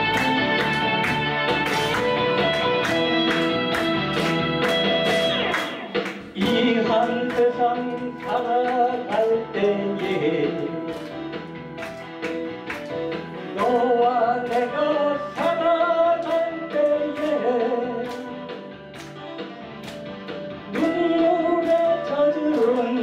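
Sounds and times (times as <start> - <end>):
audience clapping along: 0.0 - 23.0
musical accompaniment with steady beat: 0.0 - 23.0.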